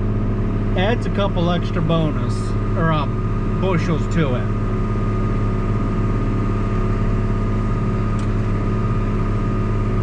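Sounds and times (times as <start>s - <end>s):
thin steady whine: 0.0s - 10.0s
tractor diesel engine drone: 0.0s - 10.0s.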